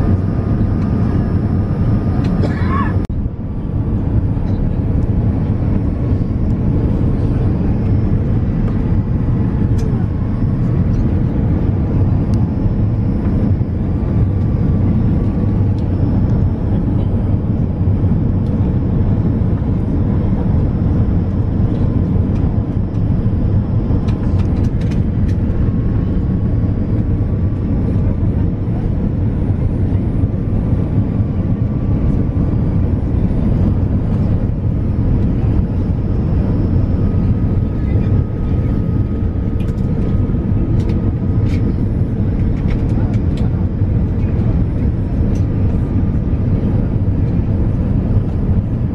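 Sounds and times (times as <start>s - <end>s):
jet engine drone in cabin: 0.0s - 48.9s.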